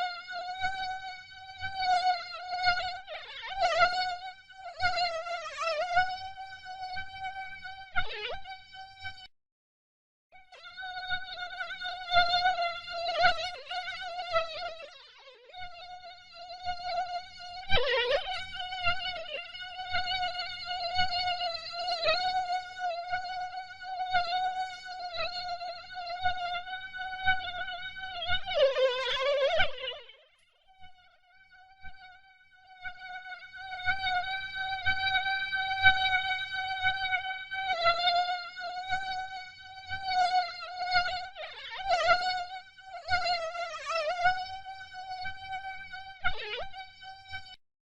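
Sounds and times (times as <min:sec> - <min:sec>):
mosquito whining: 0:00.0 - 0:09.3, 0:10.4 - 0:47.6.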